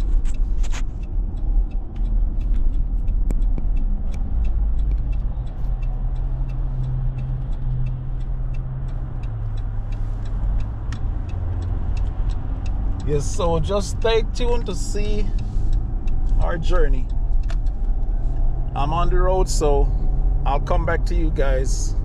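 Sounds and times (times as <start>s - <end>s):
faint regular ticks: 0.0s - 21.7s
car engine and road rumble: 0.0s - 22.0s
low engine hum: 0.0s - 22.0s.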